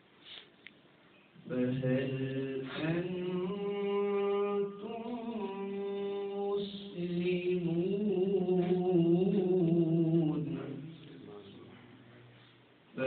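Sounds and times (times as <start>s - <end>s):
man chanting recitation: 1.4s - 13.0s.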